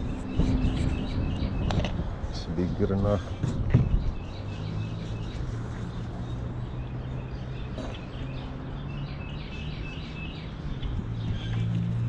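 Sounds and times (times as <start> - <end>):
birds chirping: 0.0 - 12.0
outdoor noise: 0.0 - 12.0.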